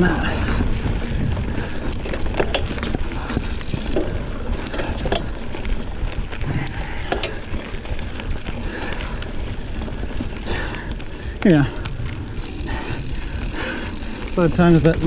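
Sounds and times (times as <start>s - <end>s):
bike clicks and rattles: 0.0s - 15.0s
bike tyres rumbling on dirt trail: 0.0s - 15.0s.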